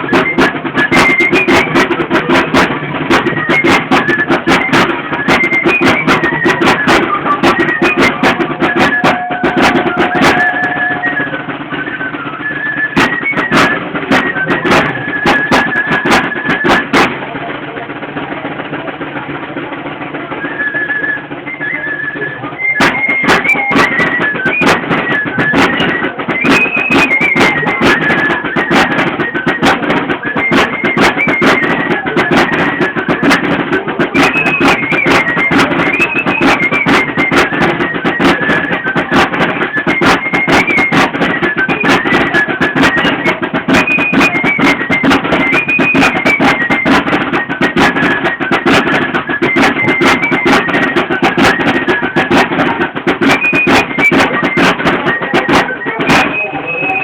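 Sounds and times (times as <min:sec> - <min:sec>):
high flute tune: 0:00.0 - 0:17.3, 0:20.2 - 0:57.0
drum rapid beats: 0:00.0 - 0:57.0.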